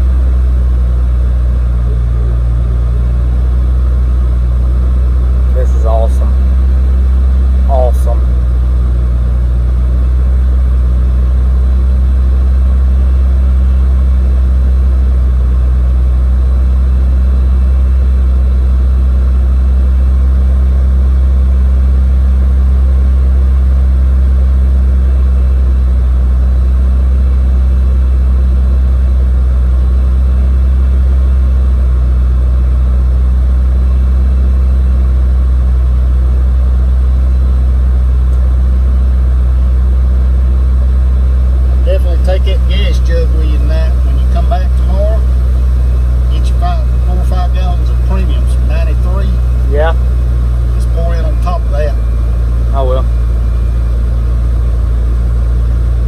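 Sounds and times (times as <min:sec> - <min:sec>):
car engine running steadily: 0:00.0 - 0:56.0.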